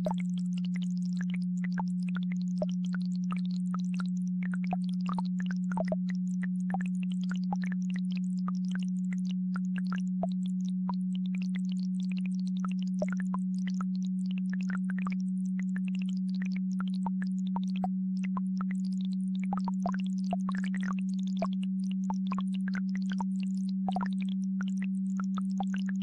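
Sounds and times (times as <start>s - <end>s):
low pure electronic tone: 0.0s - 26.0s.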